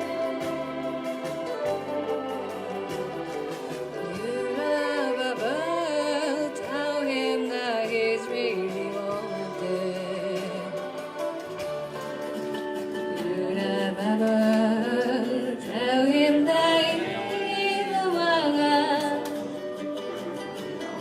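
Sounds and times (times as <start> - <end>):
voices singing long notes: 0.0 - 12.0, 13.2 - 19.3.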